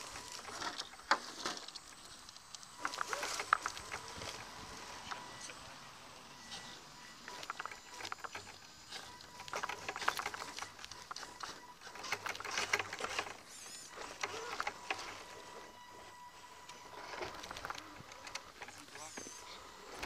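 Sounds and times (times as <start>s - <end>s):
electric motor and drivetrain whirring: 0.0s - 20.0s
tyres crunching and chassis rattling: 0.0s - 20.0s.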